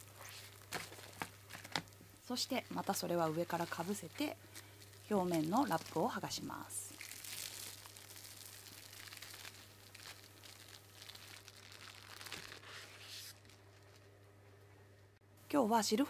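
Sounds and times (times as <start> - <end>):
cling film crinkling and peeling: 0.0 - 14.6.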